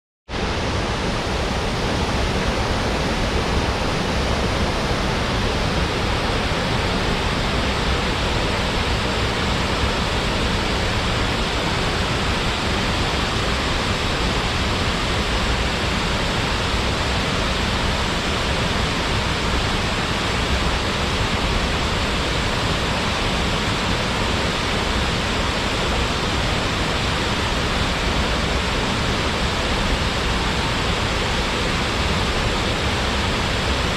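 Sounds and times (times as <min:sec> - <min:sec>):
waterfall rushing: 0:00.4 - 0:33.9.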